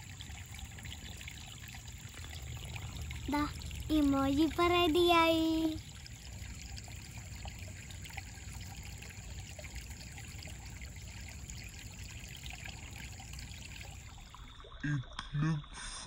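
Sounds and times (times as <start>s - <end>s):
stream trickling over rocks: 0.0s - 15.8s.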